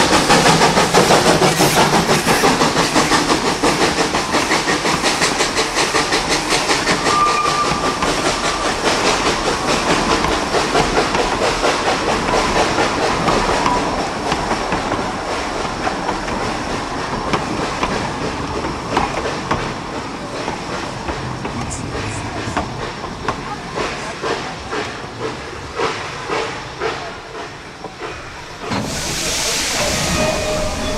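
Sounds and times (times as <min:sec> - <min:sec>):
steam locomotive chuffing: 0:00.0 - 0:30.9.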